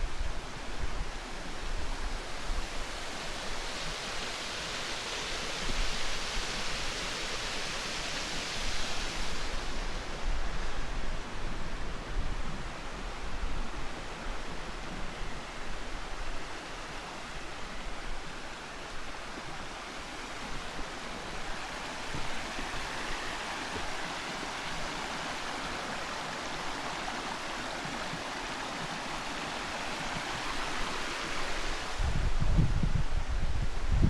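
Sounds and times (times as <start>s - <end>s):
flowing stream water: 0.0s - 34.0s
wind rumble on microphone: 0.0s - 34.0s.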